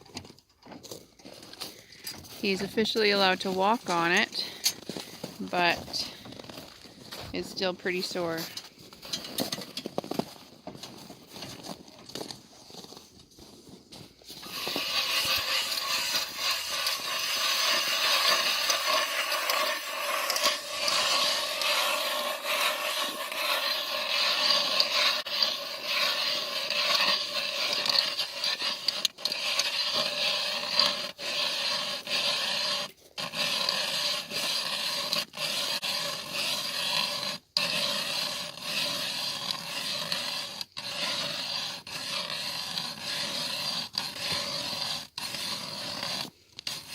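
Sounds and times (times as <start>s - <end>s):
scraping on ice: 0.8s - 46.9s.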